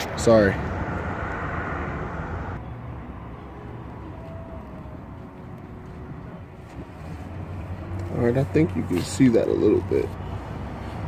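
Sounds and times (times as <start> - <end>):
low outdoor rumble: 0.2 - 11.0.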